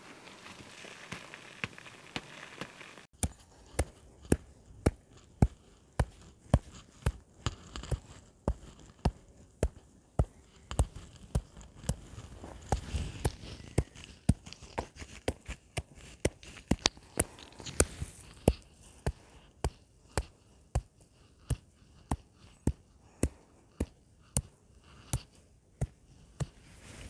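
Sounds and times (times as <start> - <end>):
footsteps with crisp taps: 0.0 - 26.7.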